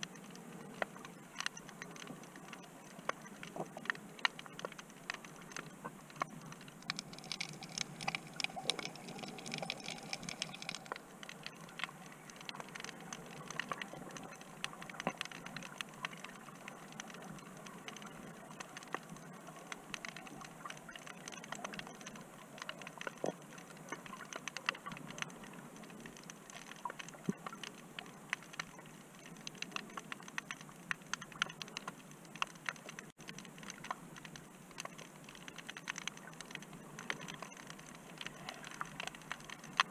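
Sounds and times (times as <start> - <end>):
underwater crackling clicks: 0.0 - 39.9.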